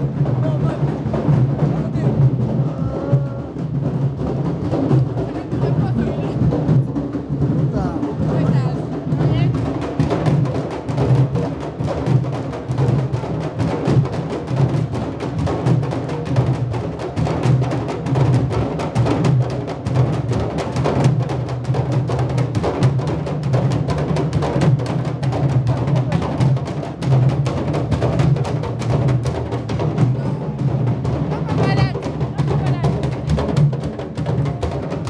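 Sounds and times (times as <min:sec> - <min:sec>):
marching bass drums: 0:00.0 - 0:35.0.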